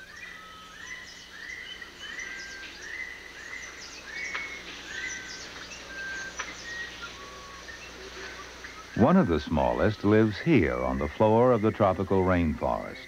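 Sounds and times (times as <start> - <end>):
faint high chirps: 0.0 - 13.0
bird repeating whistled note: 0.1 - 11.2.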